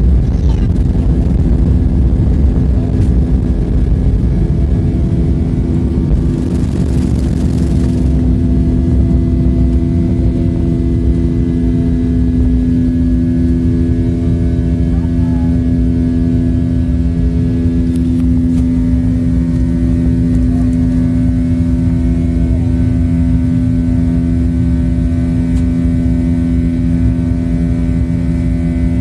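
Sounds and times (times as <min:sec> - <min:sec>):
jet engines droning in cabin: 0:00.0 - 0:29.0.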